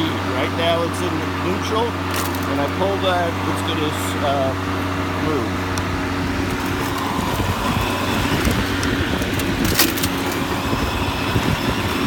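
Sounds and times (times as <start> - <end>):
lawn mower motor humming: 0.0 - 12.0.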